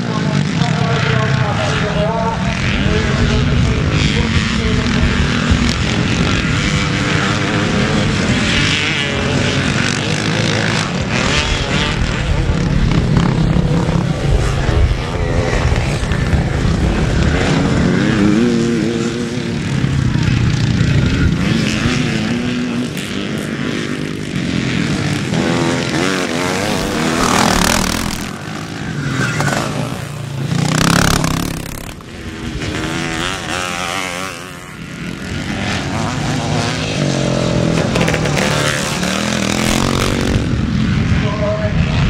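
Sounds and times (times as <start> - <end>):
motocross bikes revving: 0.0 - 42.0.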